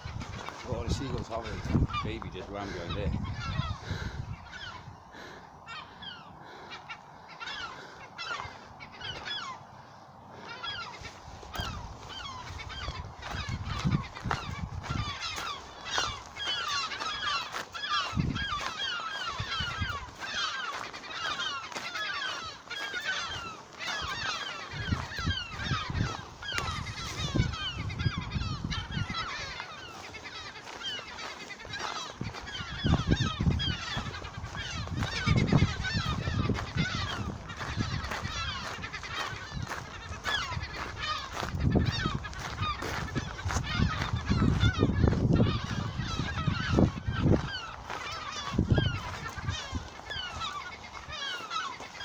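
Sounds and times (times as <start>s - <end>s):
gulls calling: 0.0s - 52.0s.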